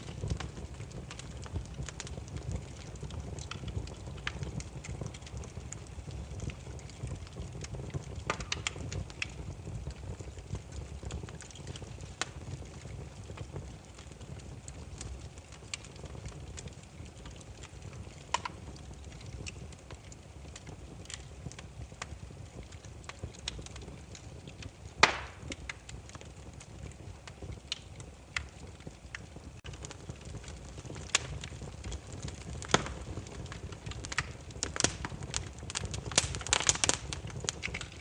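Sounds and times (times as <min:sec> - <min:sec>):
firewood crackling: 0:00.0 - 0:38.0
low rumble of flames: 0:00.0 - 0:38.0.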